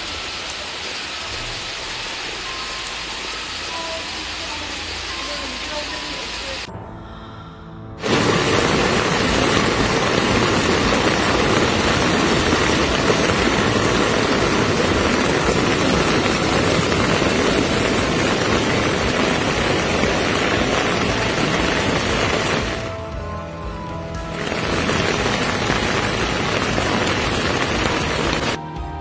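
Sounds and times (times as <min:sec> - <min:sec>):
heavy rain: 0:00.0 - 0:07.4, 0:08.0 - 0:29.0.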